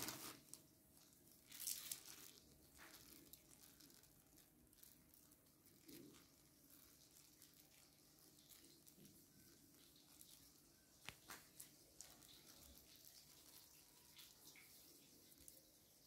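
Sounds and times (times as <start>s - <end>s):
crisp pastry crackling and tearing: 0.0s - 14.7s.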